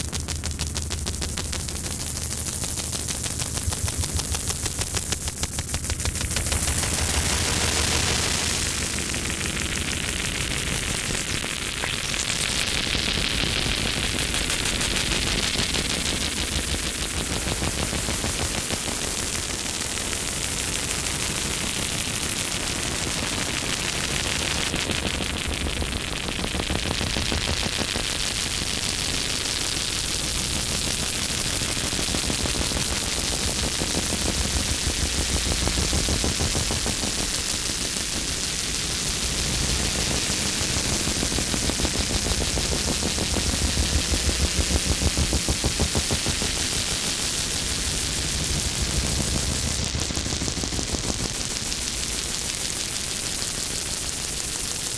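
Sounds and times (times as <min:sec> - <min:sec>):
stuttering rattling pulse: 0:00.0 - 0:20.6, 0:30.0 - 0:54.9
noise music static and hiss: 0:00.0 - 0:54.9.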